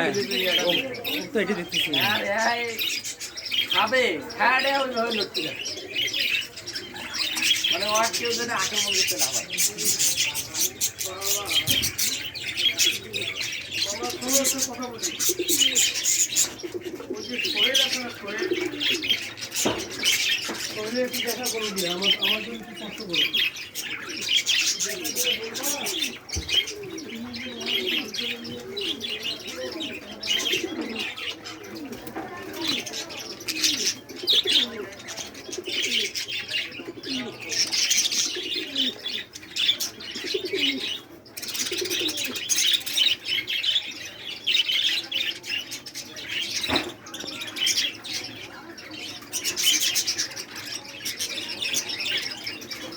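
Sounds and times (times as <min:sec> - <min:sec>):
low gliding cooing calls: 0:00.0 - 0:20.4, 0:21.0 - 0:46.6
birds chirping and tweeting: 0:00.0 - 0:52.9.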